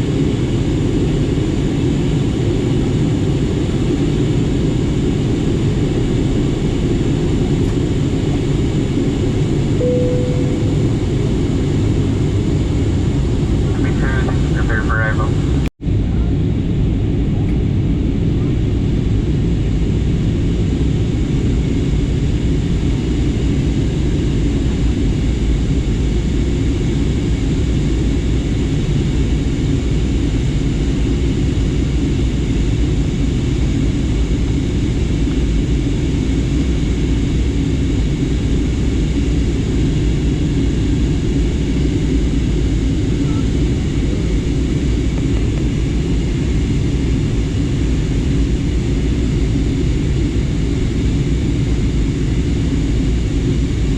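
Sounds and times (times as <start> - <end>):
airliner cabin roar: 0.0 - 53.9.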